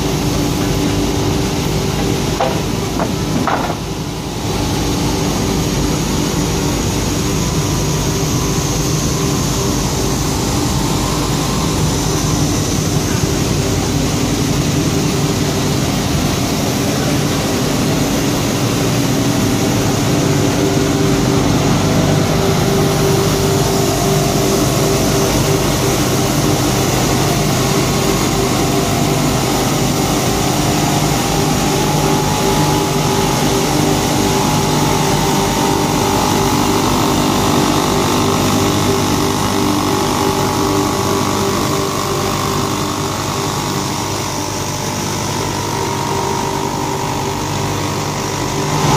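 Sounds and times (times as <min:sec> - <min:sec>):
grinding machine drone: 0:00.0 - 0:48.9
high machine whine: 0:00.0 - 0:48.9.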